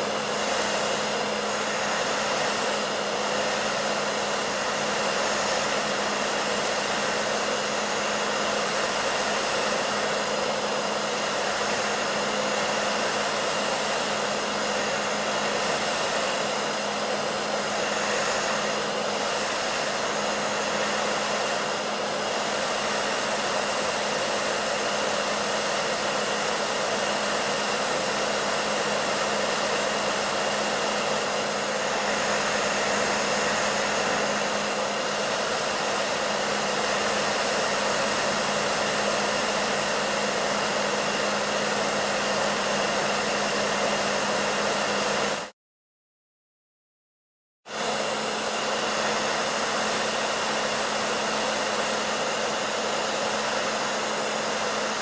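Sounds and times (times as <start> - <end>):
hair dryer running: 0.0 - 45.6, 47.6 - 55.0.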